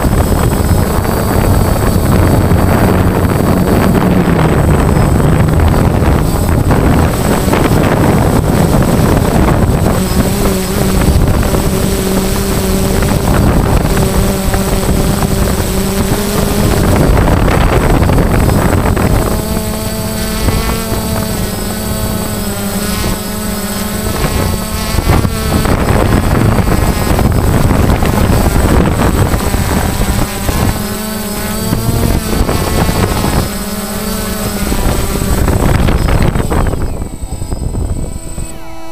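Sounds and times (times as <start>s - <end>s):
drone propellers buzzing: 0.0s - 38.9s
wind on microphone: 0.0s - 38.9s.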